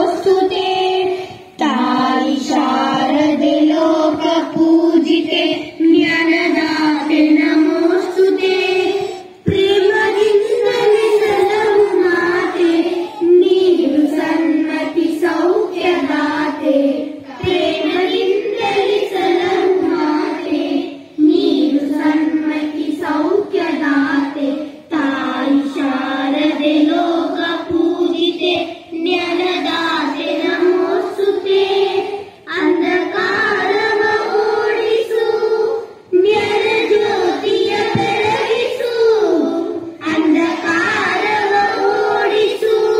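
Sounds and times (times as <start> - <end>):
children singing a prayer: 0.0 - 42.9.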